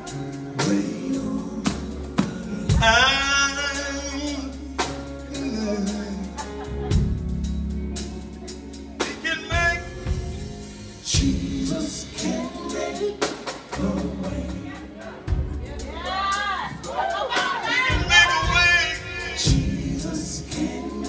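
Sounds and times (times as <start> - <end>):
men singing: 0.0 - 6.9, 9.0 - 10.2, 11.0 - 15.5, 16.4 - 21.0
bass: 0.0 - 21.0
gospel band playing: 0.0 - 21.0.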